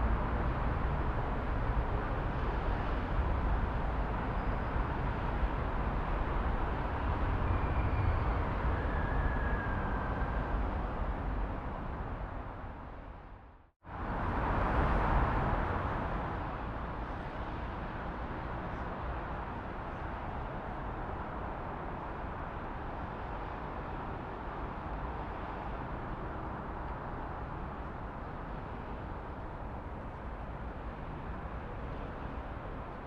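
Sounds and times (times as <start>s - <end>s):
city traffic rumble and hiss: 0.0s - 33.0s.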